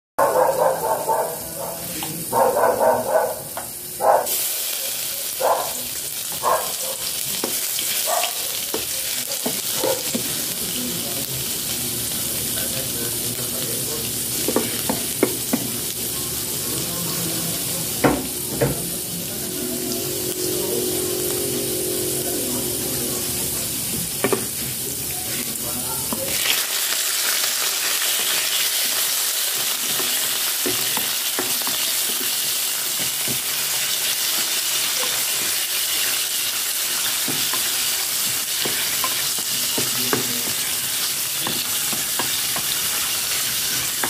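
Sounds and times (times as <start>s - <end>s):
vegetables sizzling in hot oil: 3.3s - 44.0s.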